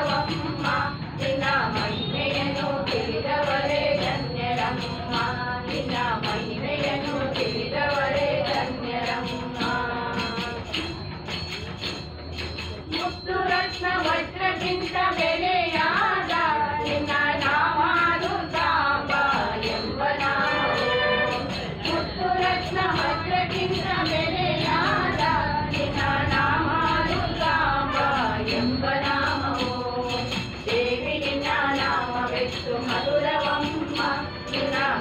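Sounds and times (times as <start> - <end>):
jingling hand percussion: 0.0 - 35.0
women singing in unison: 0.0 - 35.0.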